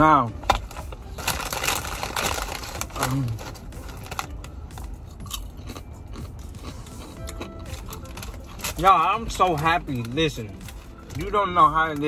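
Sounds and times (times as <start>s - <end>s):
chewing with crunches: 0.7s - 12.0s.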